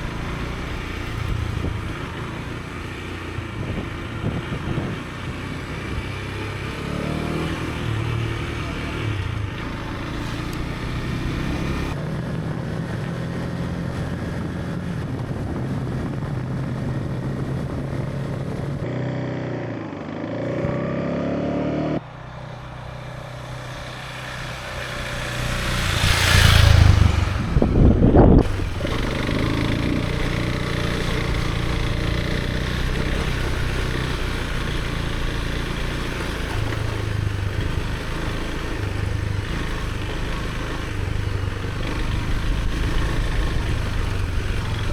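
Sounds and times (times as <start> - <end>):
rushing wind: 0.0 - 8.4, 9.0 - 44.9
motorcycle engine running: 0.0 - 44.9.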